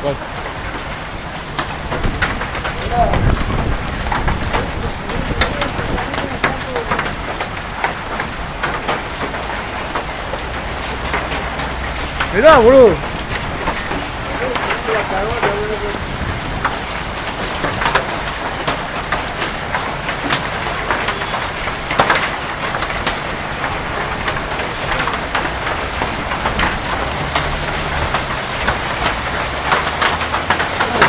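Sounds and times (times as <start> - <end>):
hailstones striking hard surfaces: 0.0 - 31.0
heavy rain hissing: 0.0 - 31.0.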